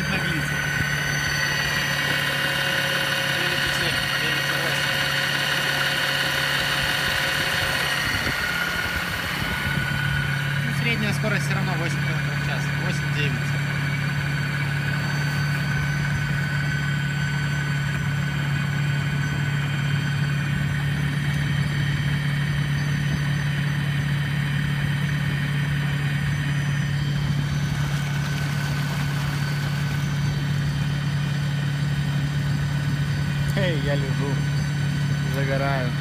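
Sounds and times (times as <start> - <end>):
electric outboard motor humming: 0.0 - 36.0.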